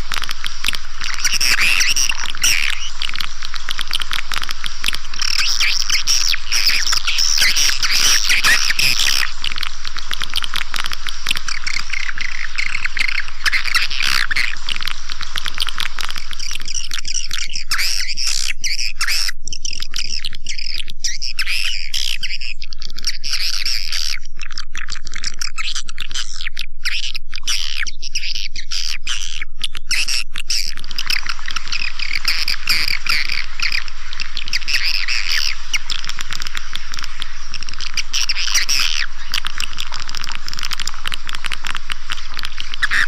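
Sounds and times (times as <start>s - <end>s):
swiftlets chirping and twittering: 0.0s - 24.2s, 24.8s - 43.0s.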